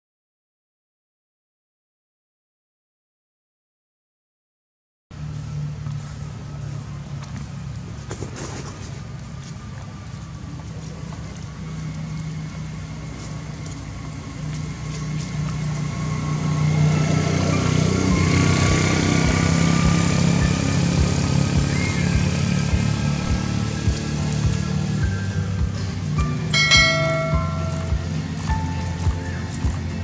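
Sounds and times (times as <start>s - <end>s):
vehicle engine humming: 5.1s - 30.0s.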